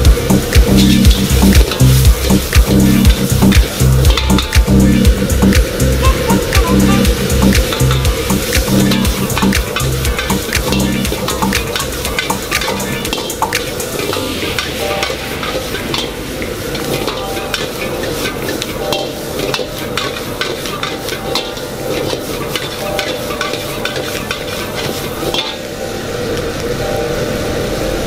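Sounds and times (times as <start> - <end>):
vegetables sizzling in a wok: 0.0 - 28.0.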